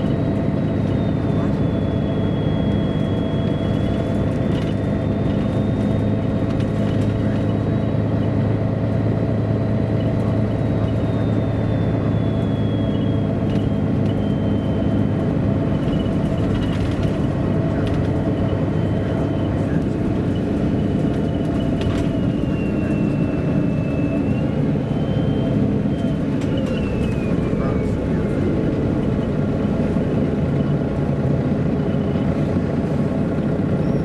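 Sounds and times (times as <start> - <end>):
bus engine drone: 0.0 - 34.0.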